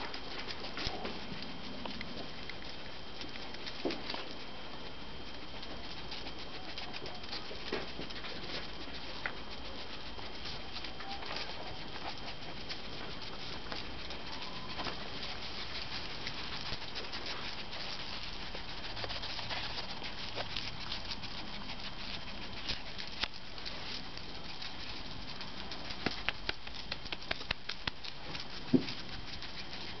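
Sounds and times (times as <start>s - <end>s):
steady outdoor hiss: 0.0s - 30.0s
claws clicking on brick paving: 5.6s - 30.0s.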